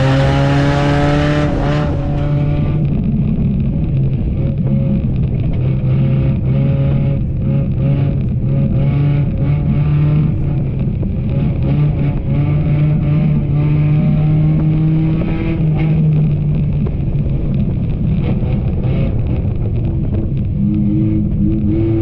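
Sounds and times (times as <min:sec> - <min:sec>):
racing car engine revving: 0:00.0 - 0:22.0.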